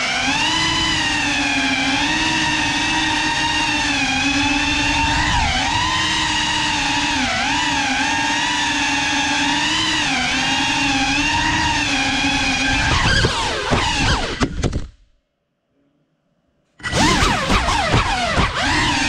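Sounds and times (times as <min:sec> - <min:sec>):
drone motors whining: 0:00.0 - 0:14.9, 0:16.8 - 0:19.0.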